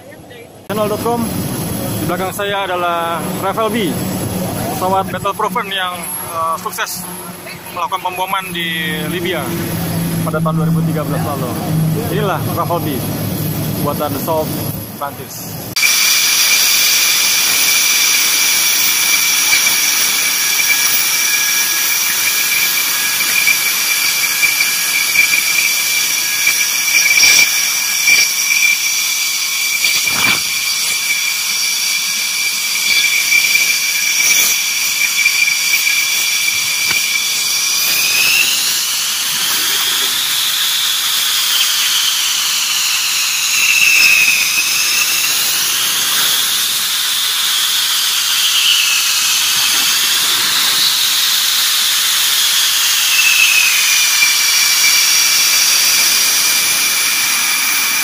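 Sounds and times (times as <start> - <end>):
jet engine turbine whine: 0.1 - 58.0.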